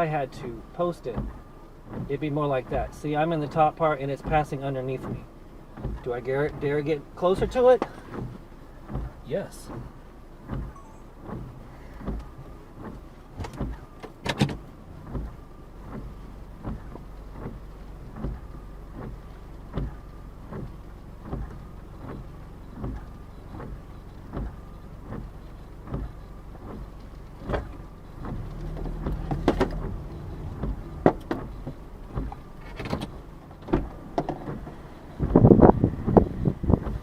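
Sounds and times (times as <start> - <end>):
road noise rumble: 0.0 - 37.0
windshield wipers thumping: 0.0 - 37.0.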